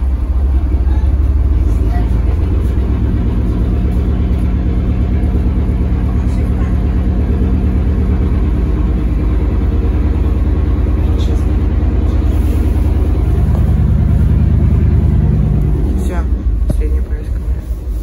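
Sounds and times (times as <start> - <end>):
bus engine humming: 0.0 - 18.0.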